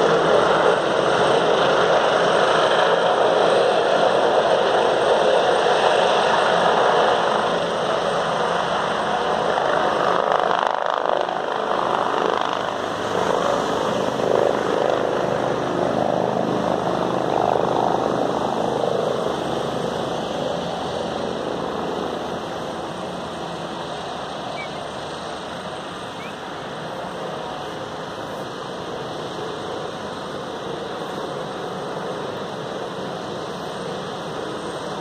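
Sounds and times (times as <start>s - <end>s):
helicopter flying low: 0.0s - 35.0s.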